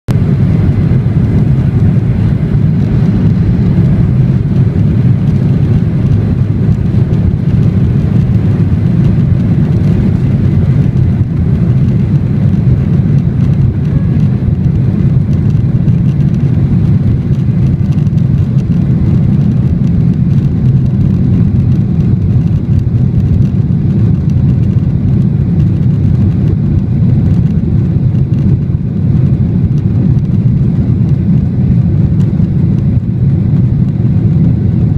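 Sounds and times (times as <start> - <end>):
jet engines rumbling: 0.1 - 34.9.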